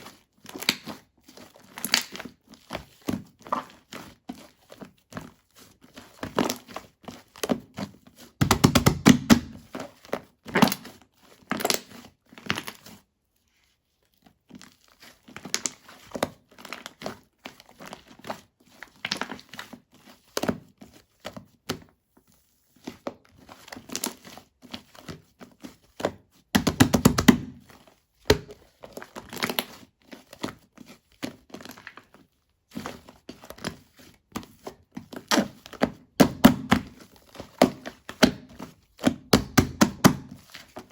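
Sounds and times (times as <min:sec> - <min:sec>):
slime squishing and crackling: 0:00.0 - 0:13.0, 0:14.1 - 0:20.7, 0:22.9 - 0:40.9.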